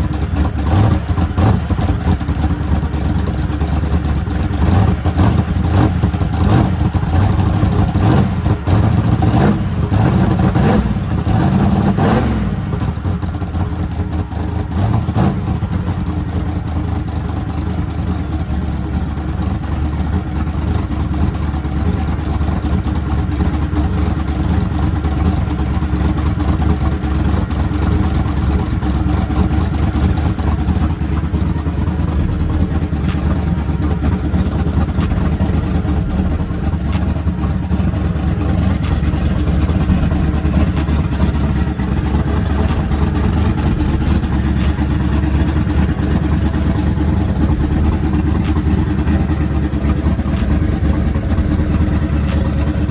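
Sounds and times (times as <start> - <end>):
car engine revving and idling: 0.0 - 52.9.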